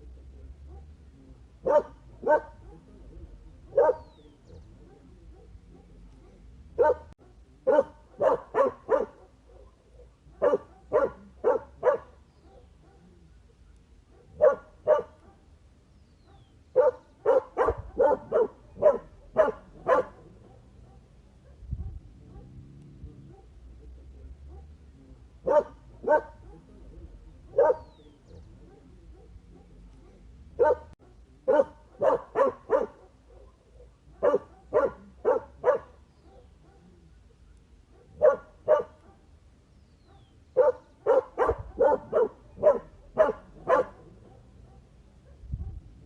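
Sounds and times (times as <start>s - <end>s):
dog barking: 0.6s - 1.0s, 1.6s - 15.6s, 16.2s - 39.4s, 40.0s - 45.9s.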